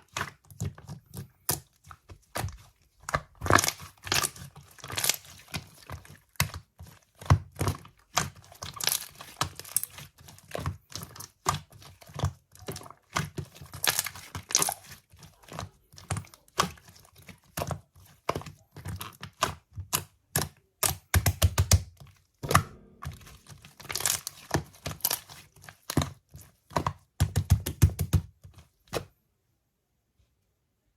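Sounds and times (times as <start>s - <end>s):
sticky material crackling and popping: 0.0s - 29.1s.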